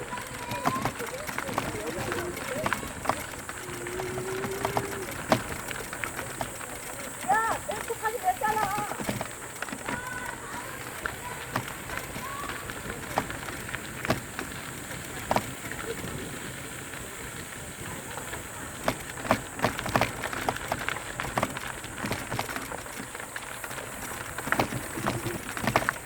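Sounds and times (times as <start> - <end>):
bike clicks and rattles: 0.0 - 26.0
tyre and wind noise: 0.0 - 26.0.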